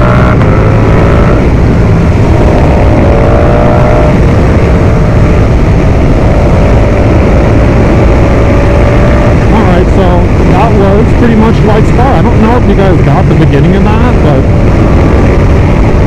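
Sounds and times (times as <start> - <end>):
motorcycle engine at speed: 0.0 - 16.0
wind rush on microphone: 0.0 - 16.0.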